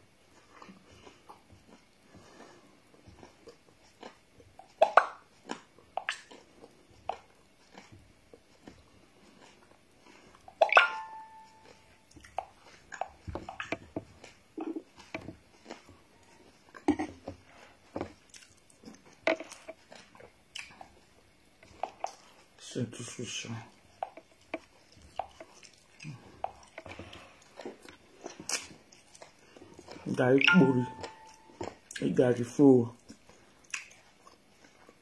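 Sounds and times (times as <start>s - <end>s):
chewing and crunching: 0.2s - 35.0s.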